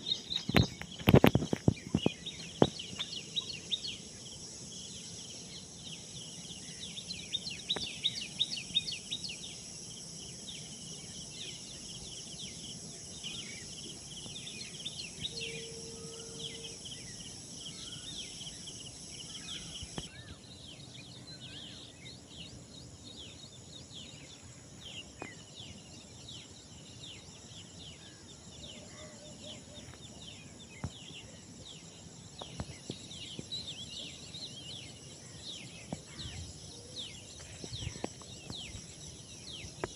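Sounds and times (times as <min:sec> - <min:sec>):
birds chirping and twittering: 0:00.0 - 0:39.9
steady high-pitched hiss: 0:00.0 - 0:39.9.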